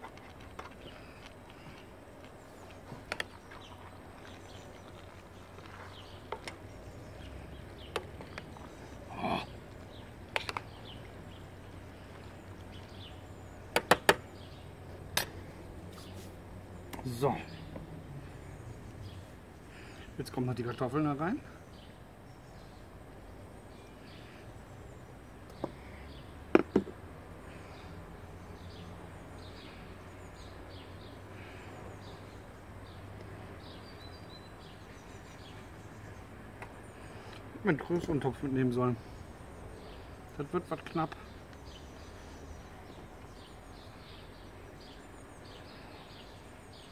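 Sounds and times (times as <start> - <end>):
low background hum: 0.0 - 46.9
small birds chirping: 0.0 - 46.9.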